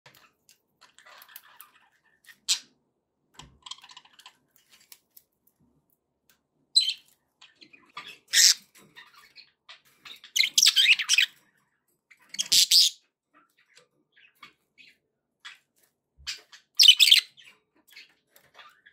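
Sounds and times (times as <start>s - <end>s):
budgerigars chirping and chattering: 0.1s - 2.8s, 3.6s - 4.5s, 6.8s - 18.9s.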